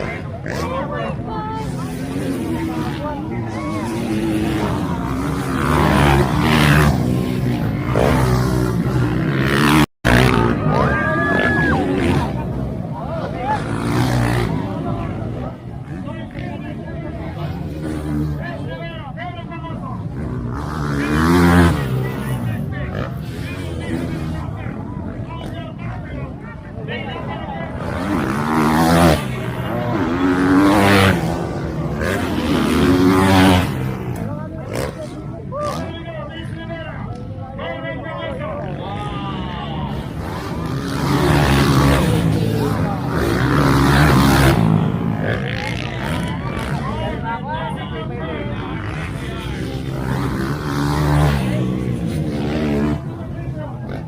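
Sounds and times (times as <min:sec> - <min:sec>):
motorbike engines revving: 0:00.0 - 0:54.0.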